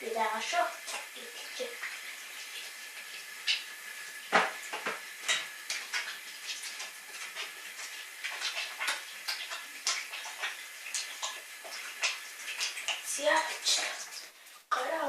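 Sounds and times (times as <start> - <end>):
tap water running: 0.0 - 15.0.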